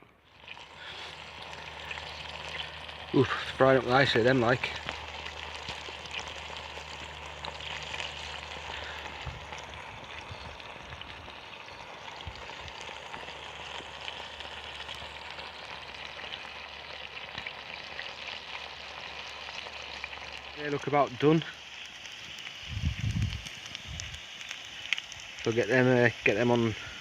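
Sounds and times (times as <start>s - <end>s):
sausages sizzling in a pan: 0.0s - 27.0s.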